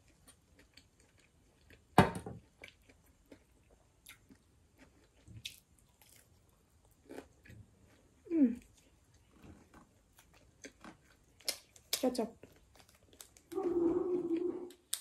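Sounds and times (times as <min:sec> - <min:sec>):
chewing pizza with crunches: 0:00.0 - 0:15.0.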